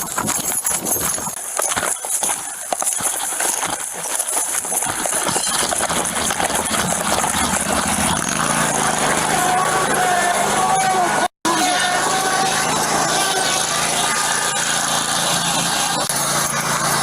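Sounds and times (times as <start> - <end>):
riding lawnmower engine: 0.0 - 17.0.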